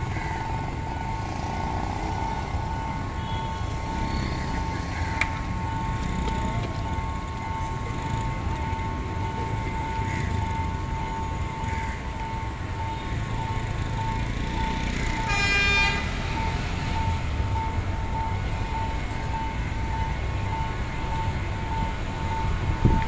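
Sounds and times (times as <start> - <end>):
constant whine: 0.0 - 23.0
train low rumble: 0.0 - 23.0.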